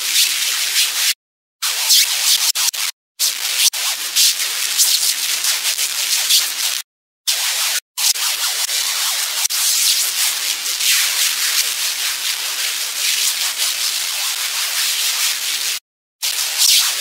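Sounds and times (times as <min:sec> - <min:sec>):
hissing scratchy noise: 0:01.6 - 0:17.0.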